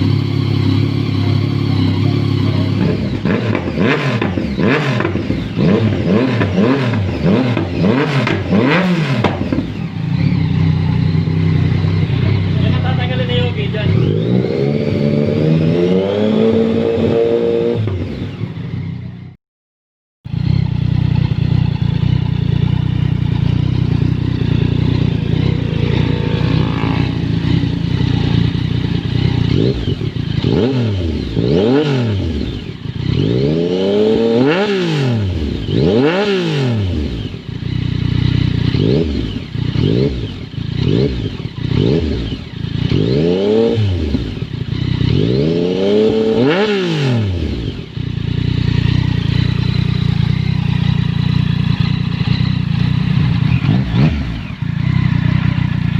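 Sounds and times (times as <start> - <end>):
motorcycle engine revving: 0.0 - 19.4, 20.3 - 55.9.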